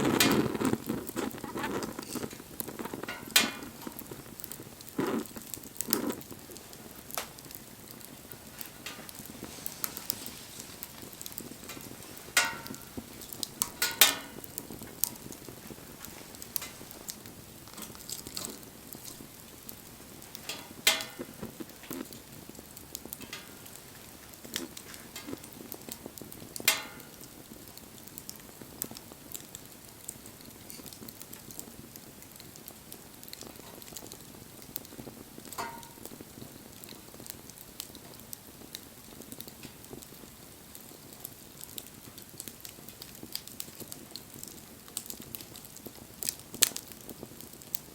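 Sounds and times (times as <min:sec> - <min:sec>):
loud pops from fire: 0:00.0 - 0:47.9
wood fire crackling: 0:00.0 - 0:47.9.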